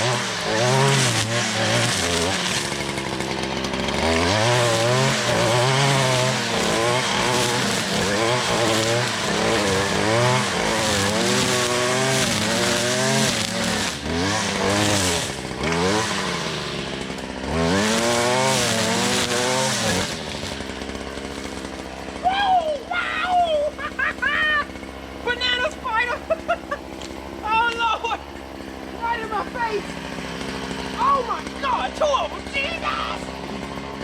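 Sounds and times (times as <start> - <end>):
string trimmer engine revving: 0.0 - 34.0.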